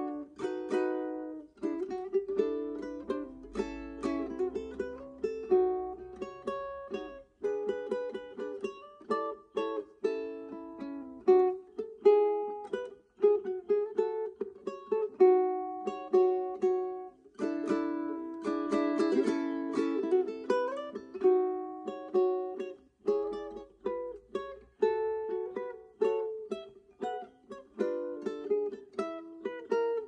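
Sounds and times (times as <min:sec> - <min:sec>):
ukulele fingerstyle melody: 0:00.0 - 0:30.0.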